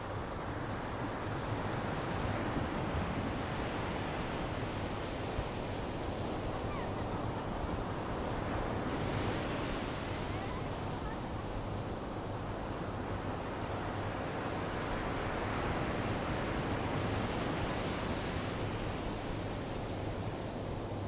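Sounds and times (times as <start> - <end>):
sea surf: 0.0 - 21.0
wind noise on microphone: 0.0 - 21.0.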